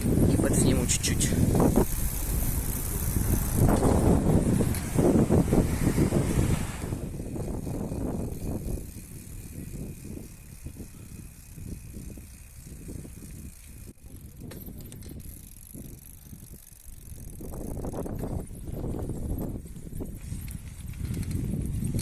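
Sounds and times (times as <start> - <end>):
bicycle parts rattling and clicking: 0.0 - 22.0
wind rumble on microphone: 0.0 - 22.0.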